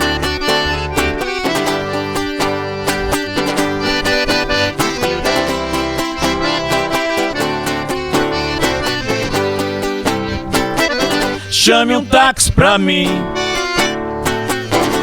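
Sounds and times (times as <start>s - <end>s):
band playing country song: 0.0s - 15.0s.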